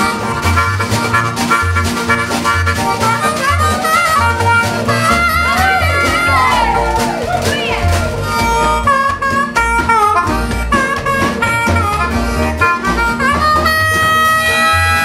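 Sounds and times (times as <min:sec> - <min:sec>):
band rhythm accompaniment: 0:00.0 - 0:15.0
harmonica solo with bent notes: 0:00.0 - 0:15.0
upright double bass: 0:00.0 - 0:15.0.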